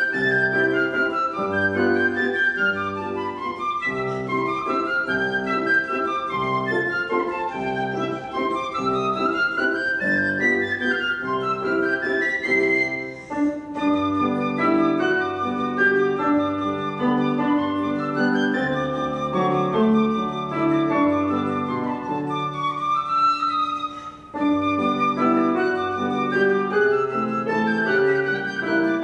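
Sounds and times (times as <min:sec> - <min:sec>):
flute melody: 0:00.0 - 0:29.0
piano chords: 0:00.0 - 0:29.0.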